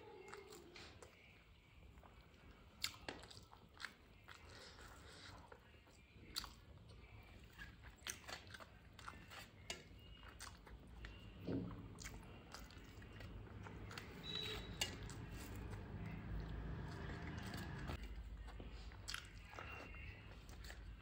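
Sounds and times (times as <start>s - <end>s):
close-up chewing: 0.1s - 21.0s.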